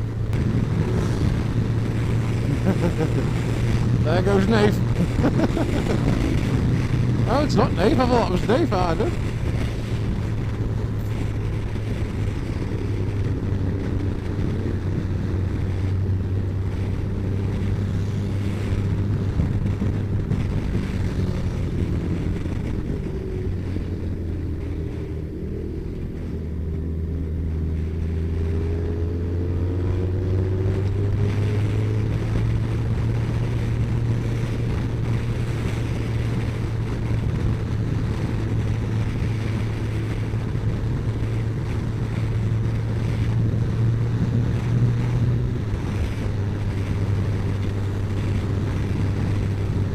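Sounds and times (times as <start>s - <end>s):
motorcycle engine running: 0.0s - 49.9s
wind on microphone: 0.0s - 49.9s.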